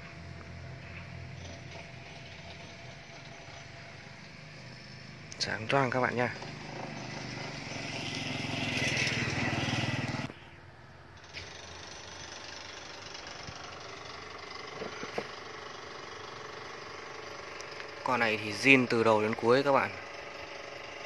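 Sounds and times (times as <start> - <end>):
small engine running: 0.0 - 10.5, 11.2 - 21.0.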